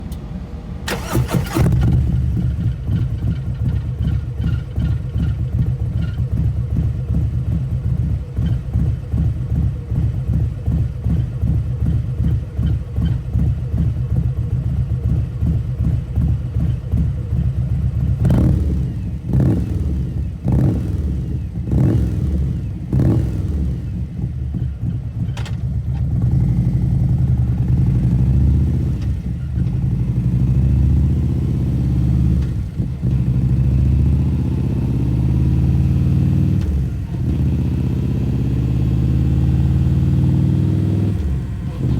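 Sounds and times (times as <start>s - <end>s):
motorcycle engine lumpy idle: 0.0s - 41.9s
motorcycle engine starting: 0.0s - 41.9s
motorcycle throttle blips: 0.9s - 41.9s.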